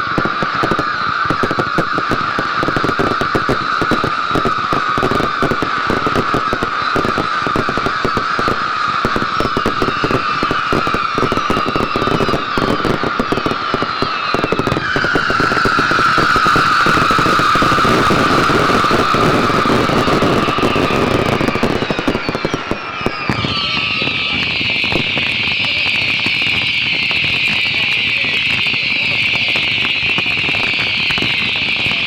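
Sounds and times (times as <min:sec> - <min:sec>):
fireworks crackling: 0:00.0 - 0:32.0
fireworks whistling: 0:00.0 - 0:32.0.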